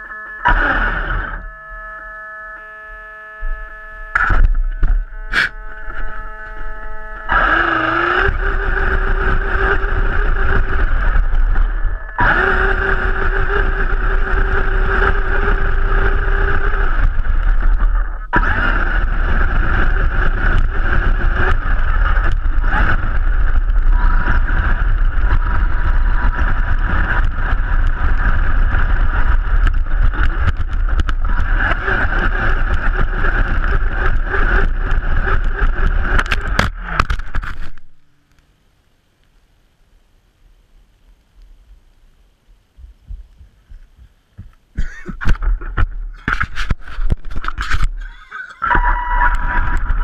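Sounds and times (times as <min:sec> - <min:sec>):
electric motor whine: 0:00.0 - 0:38.2, 0:46.2 - 0:50.0
tyres over rough dirt: 0:03.5 - 0:38.1, 0:42.8 - 0:50.0.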